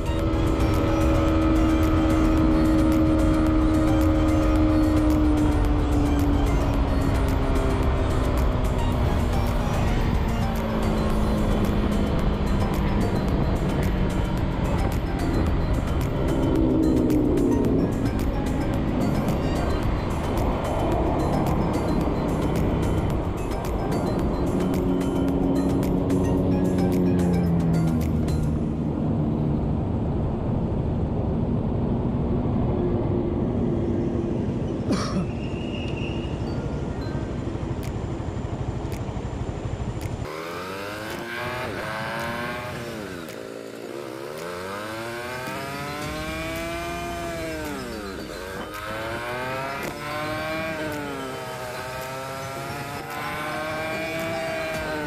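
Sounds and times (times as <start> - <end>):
motorcycle engine hum: 0.0 - 55.0
road rumble: 0.0 - 55.0.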